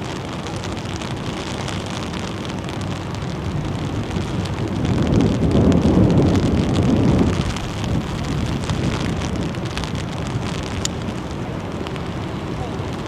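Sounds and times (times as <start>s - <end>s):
rain: 0.0s - 13.0s
wind buffeting microphone: 0.0s - 13.0s.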